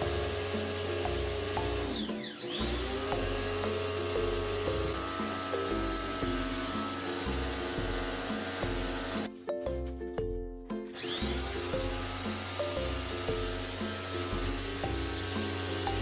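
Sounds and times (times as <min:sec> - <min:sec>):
hissing machine noise: 0:00.0 - 0:09.3, 0:11.0 - 0:16.0
motor whine spinning up: 0:00.0 - 0:09.3, 0:11.0 - 0:16.0
background music: 0:00.0 - 0:16.0.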